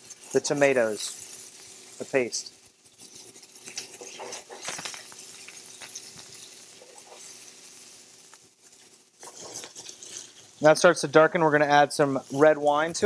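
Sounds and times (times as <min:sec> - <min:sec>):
metal utensil scraping pan: 0:00.0 - 0:10.9
food sizzling in a skillet: 0:00.0 - 0:13.0.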